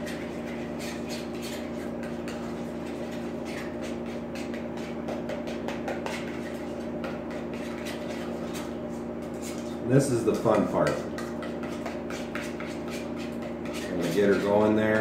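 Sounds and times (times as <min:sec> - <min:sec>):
spoon scraping metal bowl: 0:00.0 - 0:15.0.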